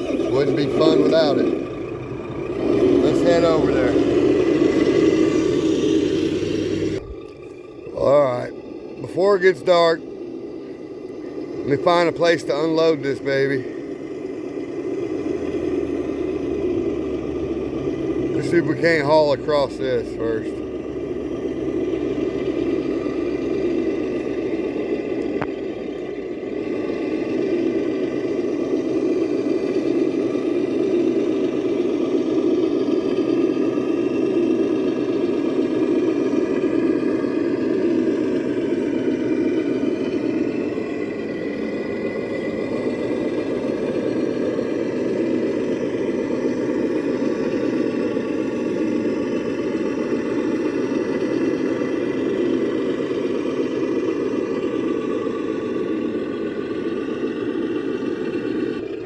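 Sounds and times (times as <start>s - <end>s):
toy truck motor whirring: 0.0s - 59.0s.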